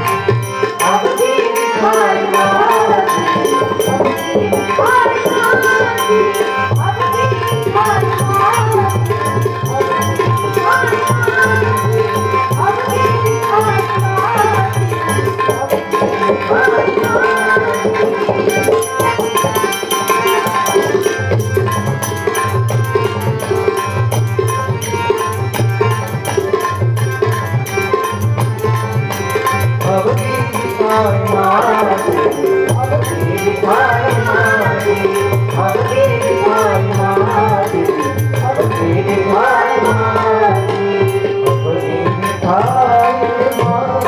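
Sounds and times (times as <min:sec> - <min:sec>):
person singing: 0:00.0 - 0:21.1, 0:29.6 - 0:44.0
fast high percussion ticking: 0:00.0 - 0:44.0
hand drum rhythm: 0:00.0 - 0:44.0.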